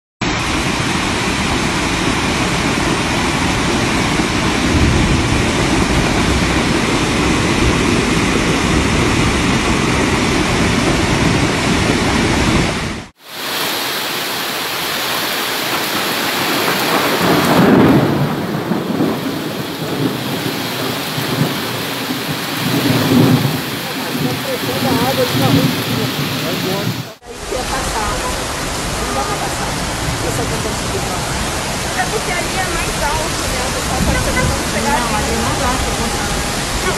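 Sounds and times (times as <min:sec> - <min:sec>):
floodwater torrent roaring: 0:00.2 - 0:36.9
heavy rain: 0:00.2 - 0:36.9.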